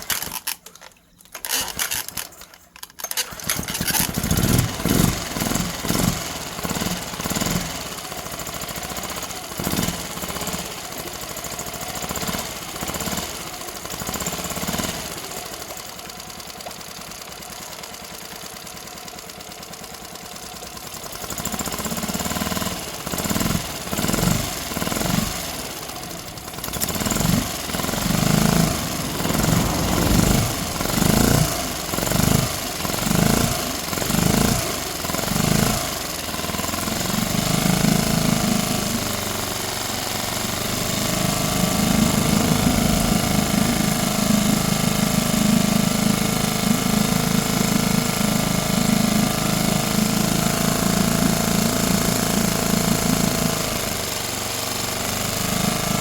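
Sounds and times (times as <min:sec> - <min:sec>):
outboard motor running: 0:01.2 - 0:56.0.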